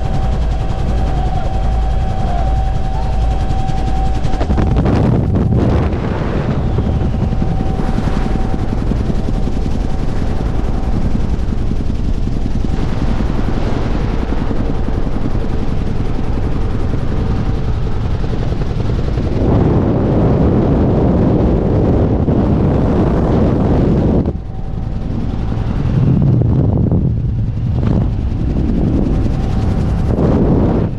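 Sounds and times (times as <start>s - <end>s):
helicopter rotor chopping: 0.0s - 30.9s
turbine engine noise: 0.0s - 30.9s.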